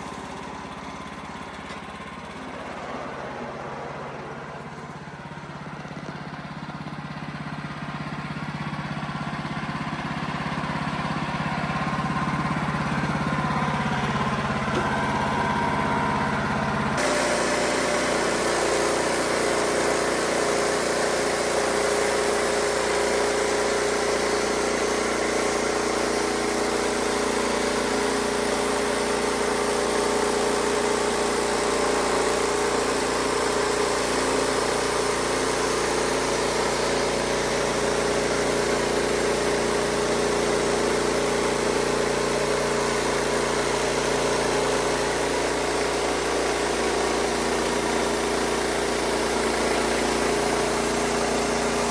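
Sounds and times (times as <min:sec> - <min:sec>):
sawmill engine running: 0:00.0 - 0:51.9.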